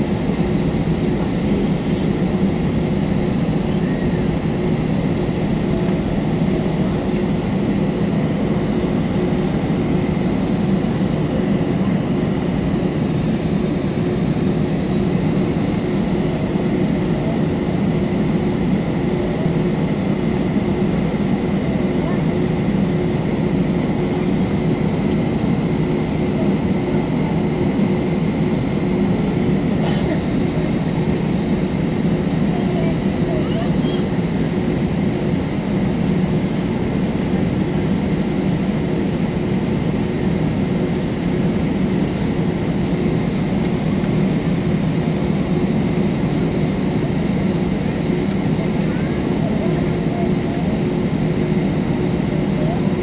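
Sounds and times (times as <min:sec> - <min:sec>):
aircraft cabin engine drone: 0:00.0 - 0:53.0.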